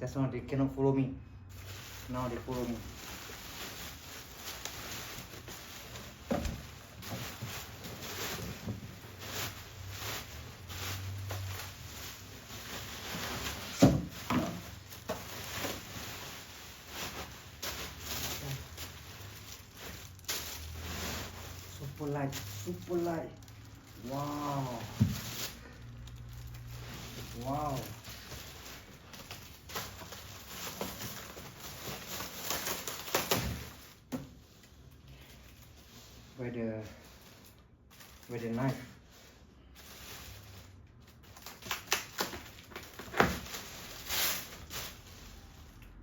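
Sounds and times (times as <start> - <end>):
packaging rustling: 1.5 - 46.0.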